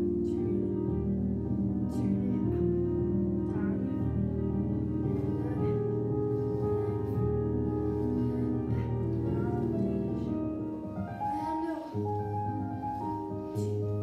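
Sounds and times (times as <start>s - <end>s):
piano music with held notes: 0.0s - 14.0s.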